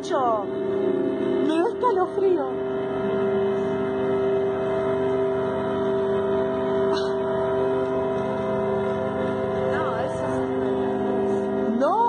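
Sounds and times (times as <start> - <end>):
horn-like drone: 0.0 - 12.0.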